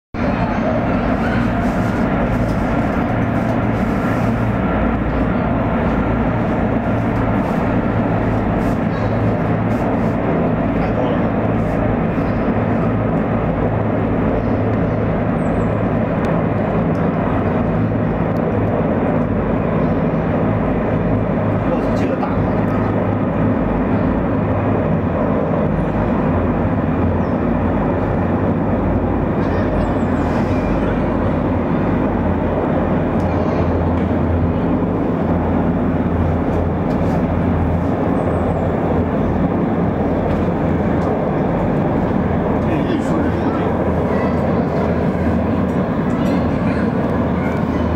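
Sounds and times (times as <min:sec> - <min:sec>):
helicopters drone: 0:00.2 - 0:47.9.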